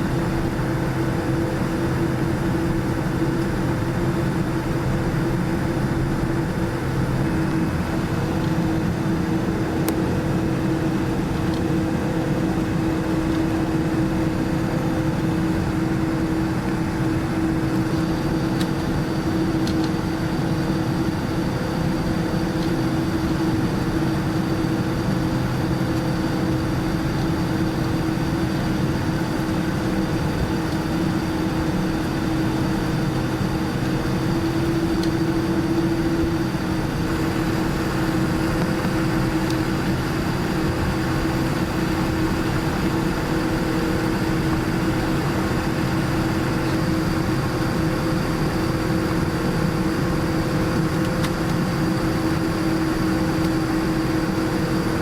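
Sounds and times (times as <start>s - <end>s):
jet engine cabin hum: 0.0s - 55.0s.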